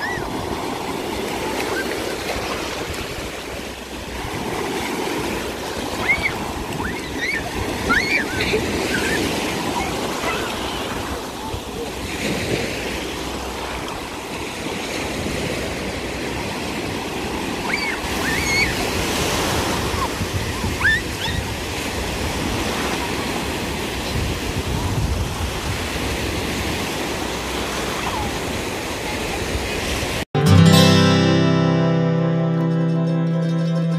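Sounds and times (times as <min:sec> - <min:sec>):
surf washing up a beach: 0:00.0 - 0:30.6
wind rumble on microphone: 0:02.2 - 0:30.2.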